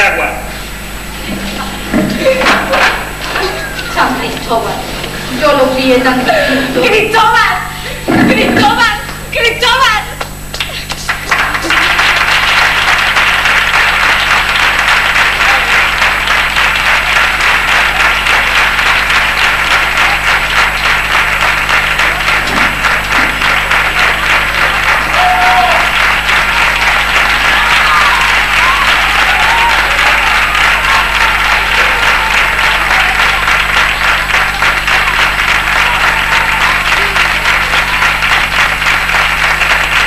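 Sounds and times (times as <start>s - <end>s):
audience applauding: 1.2s - 9.2s, 10.2s - 40.0s.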